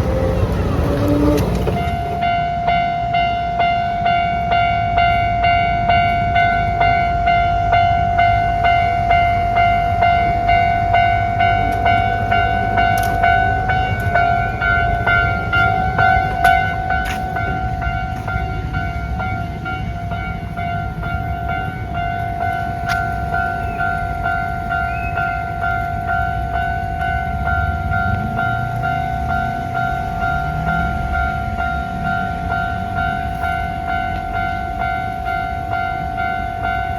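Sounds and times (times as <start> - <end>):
level crossing warning bell: 0.0 - 36.9
train rumbling past: 0.0 - 36.9.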